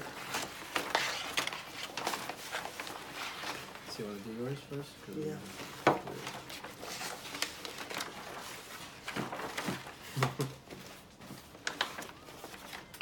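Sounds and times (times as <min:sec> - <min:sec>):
wrapping paper rustling and crinkling: 0:00.0 - 0:13.0.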